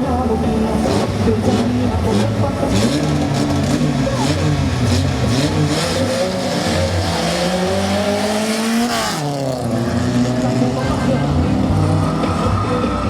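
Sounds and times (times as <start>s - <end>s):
drag racing car accelerating: 0.1s - 13.0s.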